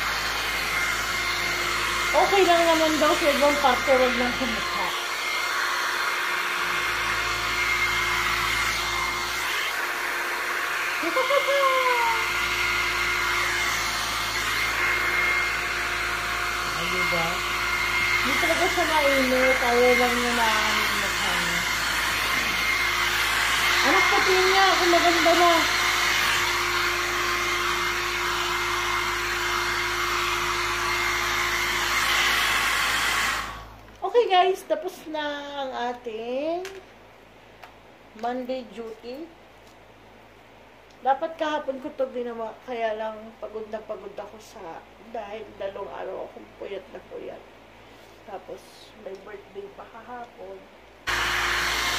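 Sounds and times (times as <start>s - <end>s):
hair dryer whooshing with whine: 0.0s - 35.5s, 41.0s - 51.9s.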